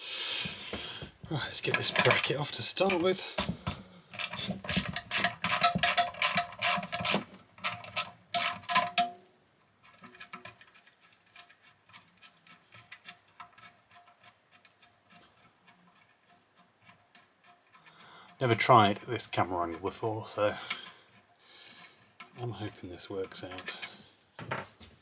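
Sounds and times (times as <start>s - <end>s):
metal hand tools clicking and rattling: 1.4s - 24.0s.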